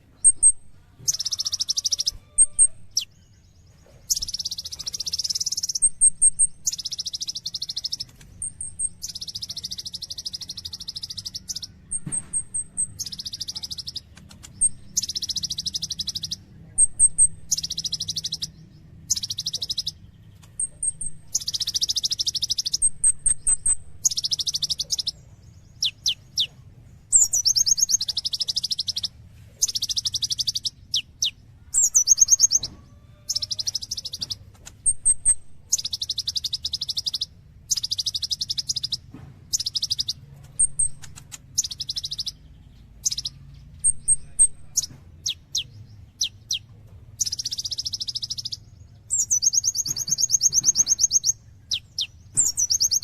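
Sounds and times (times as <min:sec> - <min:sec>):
sunbird singing high trills: 0:00.0 - 0:46.6, 0:47.2 - 0:53.0
faint low hum: 0:00.0 - 0:53.0.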